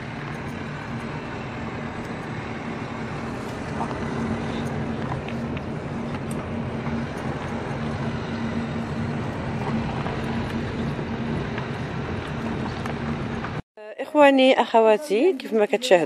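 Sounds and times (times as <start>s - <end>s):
car engine hum: 0.0s - 13.6s.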